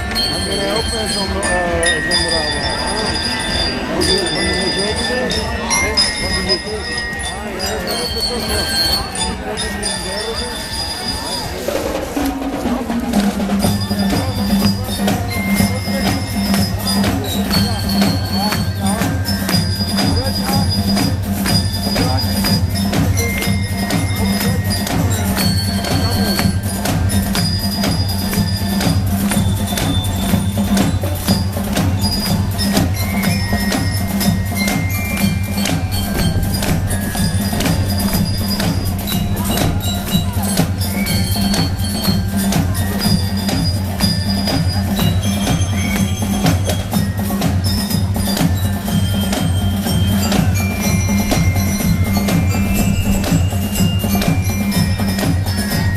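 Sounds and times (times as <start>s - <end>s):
glockenspiel bell notes: 0.0s - 12.6s, 13.2s - 55.9s
drum strokes: 0.0s - 55.9s.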